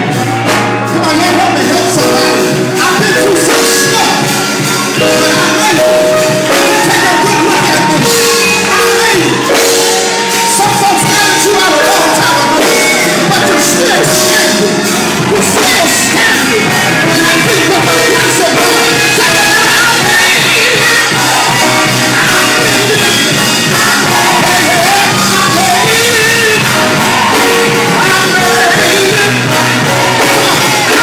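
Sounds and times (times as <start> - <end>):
gospel singing: 0.0 - 31.0
instrumental chords: 0.0 - 31.0
people shouting: 2.9 - 31.0.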